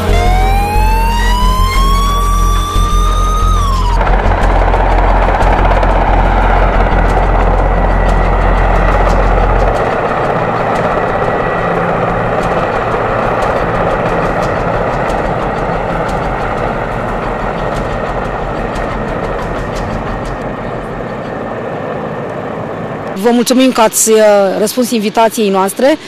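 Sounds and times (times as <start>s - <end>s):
deep low rumble: 0.0s - 21.9s
helicopter hovering: 0.0s - 26.0s.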